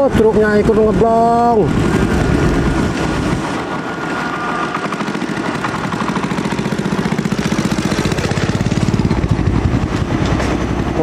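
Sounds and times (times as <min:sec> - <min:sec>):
bus engines: 0:00.0 - 0:11.0
motorcycle engines: 0:00.0 - 0:11.0
truck engine: 0:00.0 - 0:11.0.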